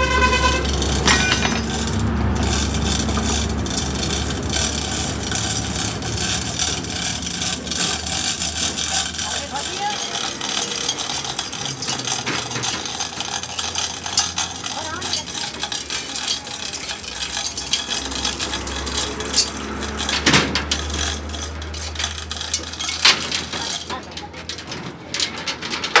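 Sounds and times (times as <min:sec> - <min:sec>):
chains clinking and rattling: 0:00.0 - 0:26.0.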